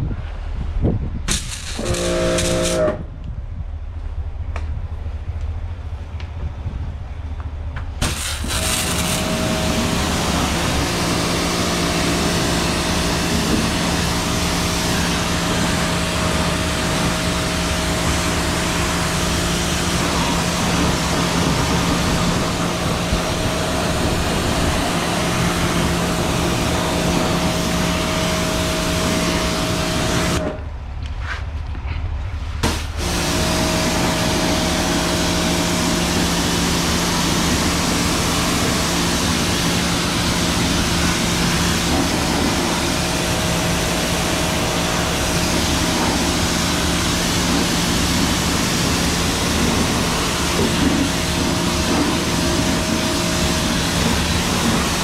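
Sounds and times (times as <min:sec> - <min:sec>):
high-pressure water jet hissing: 0:01.3 - 0:03.0, 0:08.0 - 0:30.5, 0:32.6 - 0:55.0
pressure washer motor humming: 0:01.7 - 0:02.8, 0:08.0 - 0:30.6, 0:32.6 - 0:55.0.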